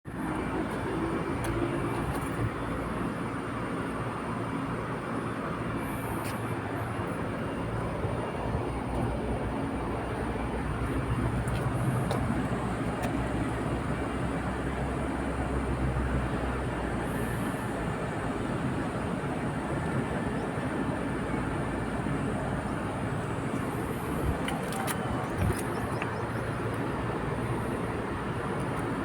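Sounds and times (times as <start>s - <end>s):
moving vehicle rumble: 0.1s - 29.0s.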